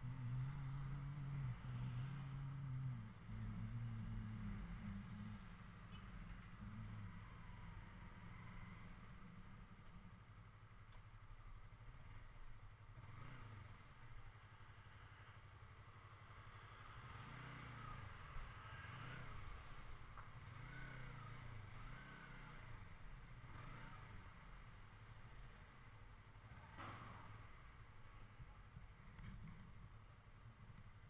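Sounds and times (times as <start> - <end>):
faint motorcycle engine revving: 0.0 - 31.0.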